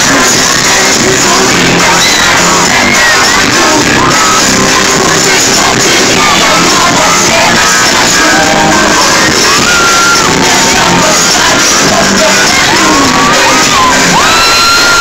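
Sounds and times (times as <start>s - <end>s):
crowd shouting and screaming: 0.0s - 15.0s
live pop music: 0.0s - 15.0s
person singing: 0.0s - 15.0s.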